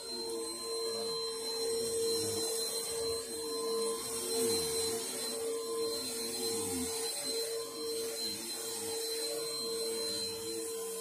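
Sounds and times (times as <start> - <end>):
low wavering tone: 0.0 - 11.0
vacuum cleaner motor whine: 0.0 - 11.0.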